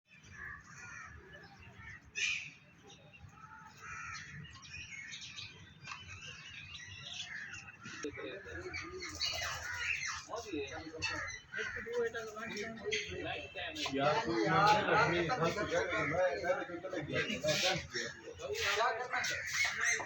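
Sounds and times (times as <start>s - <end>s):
birds chirping in chorus: 0.1s - 20.0s.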